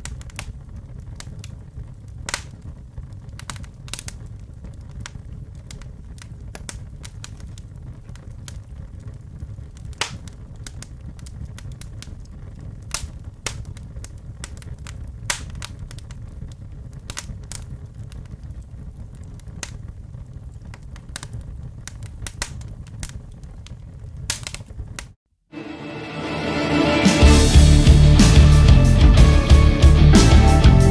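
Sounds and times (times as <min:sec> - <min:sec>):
fire crackling and popping: 0:00.0 - 0:25.2.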